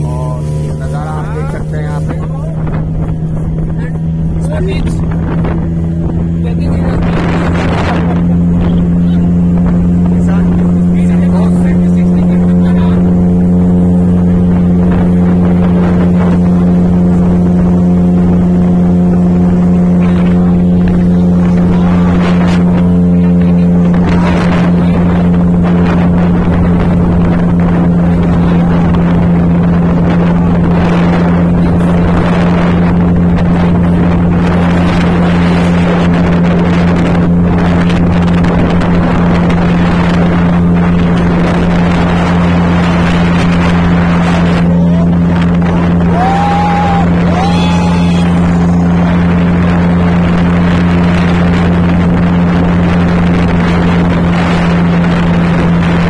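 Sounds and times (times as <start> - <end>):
boat motor droning: 0.0 - 56.0
rushing wind and water: 0.0 - 56.0.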